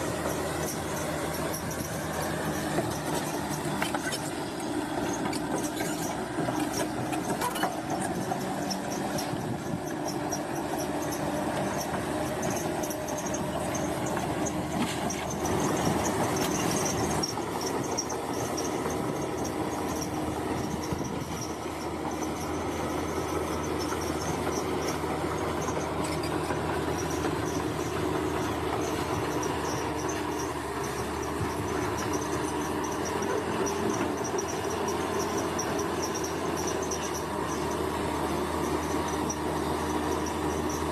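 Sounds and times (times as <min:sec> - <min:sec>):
bulldozer diesel engine running: 0:00.0 - 0:40.9
steel crawler tracks clanking: 0:00.0 - 0:40.9.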